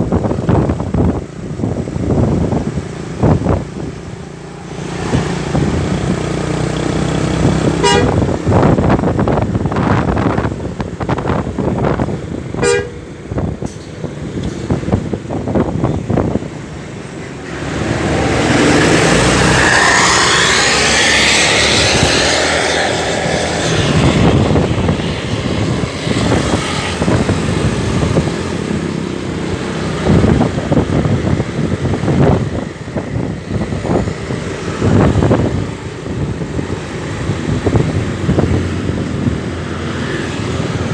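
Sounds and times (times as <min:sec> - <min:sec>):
bus engine running: 0:00.0 - 0:40.9
loud rushing sound: 0:00.0 - 0:40.9
traffic noise: 0:00.0 - 0:40.9.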